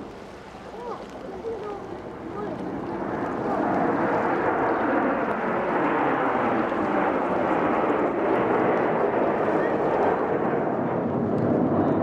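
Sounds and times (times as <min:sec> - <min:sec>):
jets flying overhead: 0:00.0 - 0:12.0.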